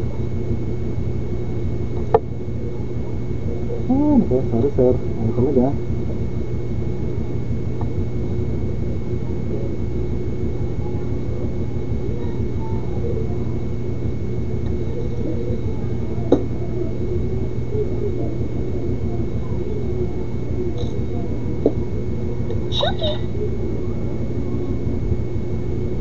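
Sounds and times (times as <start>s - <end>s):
background hum: 0.0s - 26.0s.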